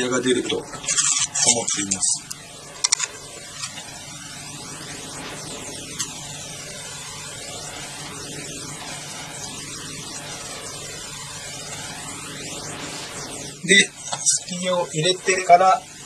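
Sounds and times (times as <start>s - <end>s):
low hum: 0.0s - 16.0s
steady rushing noise: 0.0s - 16.0s.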